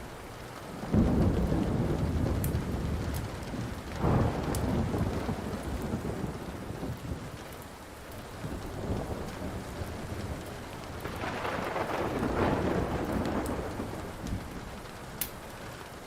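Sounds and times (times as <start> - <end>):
steady rain: 0.0 - 16.0
thunder rolling: 0.8 - 7.4, 8.4 - 15.0.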